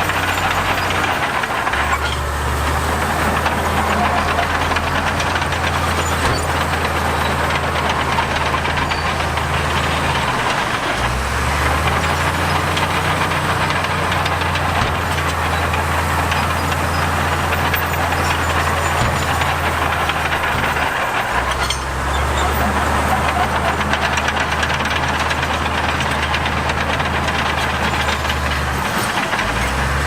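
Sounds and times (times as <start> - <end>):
heavy diesel machinery engine drone: 0.0 - 30.0.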